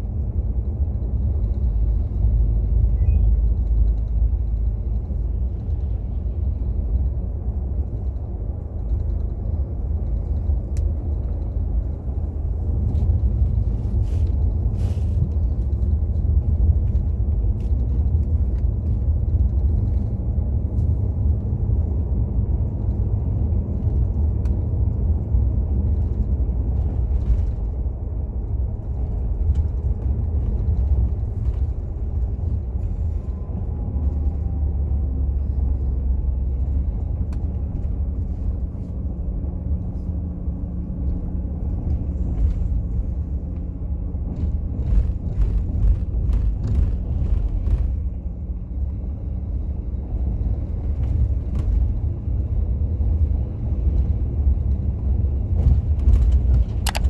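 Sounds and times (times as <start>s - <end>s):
bus engine and tyre rumble: 0.0s - 57.0s.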